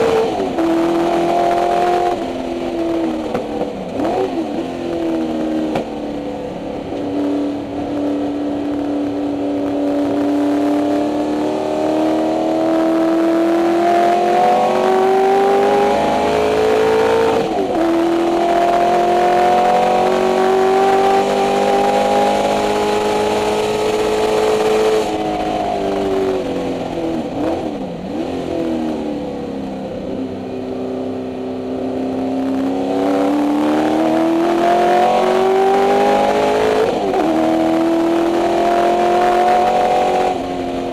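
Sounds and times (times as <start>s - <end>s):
car engine revving: 0.0s - 30.0s, 31.2s - 40.9s.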